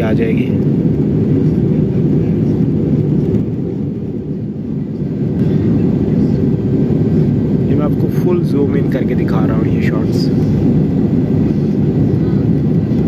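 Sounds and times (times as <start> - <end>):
jet cabin engine noise: 0.0 - 13.0.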